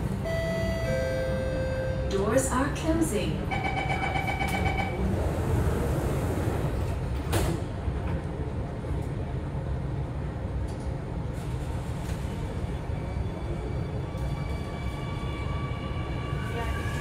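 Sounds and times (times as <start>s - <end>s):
metro car low rumble: 0.0s - 17.0s.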